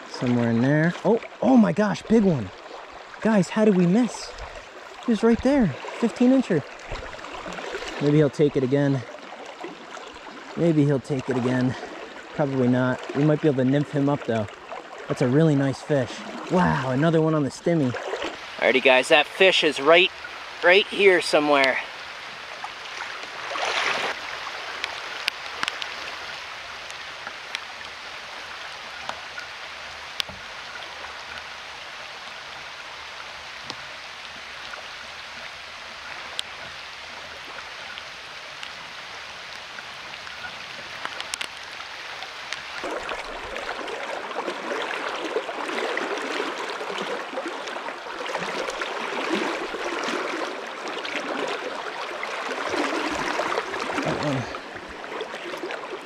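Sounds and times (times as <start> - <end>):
rain falling on water: 0.0 - 56.0
river current flowing: 0.0 - 56.0.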